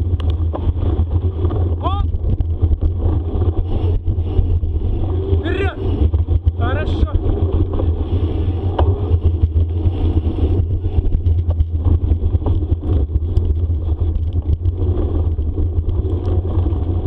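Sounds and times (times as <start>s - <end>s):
bicycle tyres on dirt: 0.0s - 17.0s
small rattles and clicks: 0.0s - 17.0s
wind rumble: 0.0s - 17.0s.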